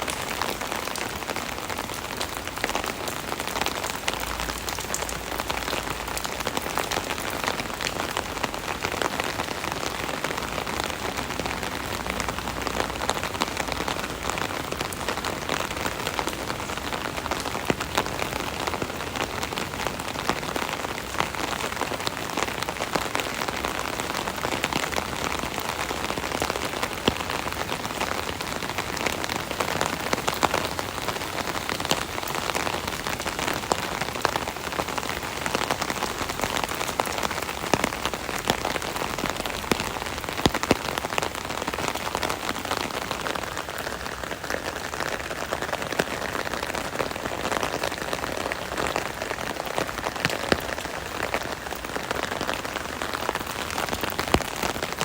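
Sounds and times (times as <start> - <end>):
rain drumming on an umbrella: 0.0 - 55.0.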